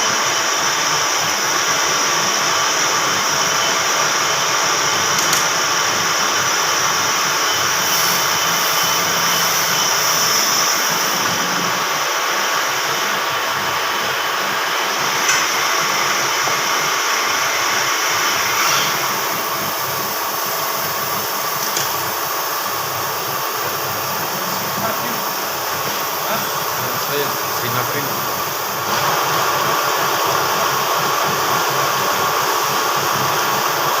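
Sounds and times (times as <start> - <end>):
grinding machine whining: 0.0 - 34.0.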